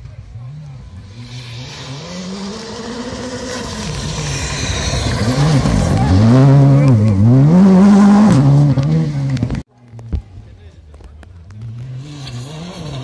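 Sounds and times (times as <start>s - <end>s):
rally car passing at speed: 0.2s - 9.6s, 11.5s - 13.0s.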